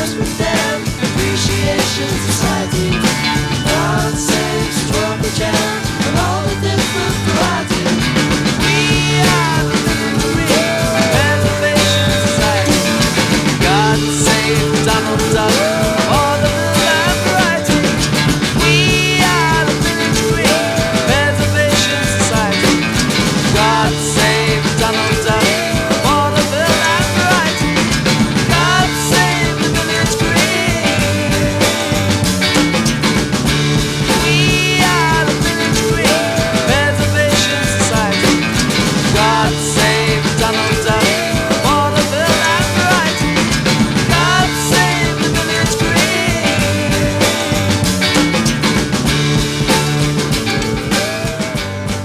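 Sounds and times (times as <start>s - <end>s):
rock band playing: 0.0s - 52.0s
sliding lead line: 0.0s - 52.0s.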